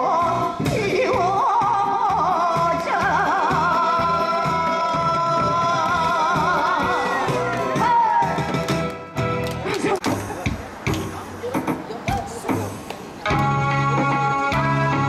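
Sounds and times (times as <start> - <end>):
amplified backing music: 0.0 - 15.0
drum kit steady beat: 0.2 - 15.0.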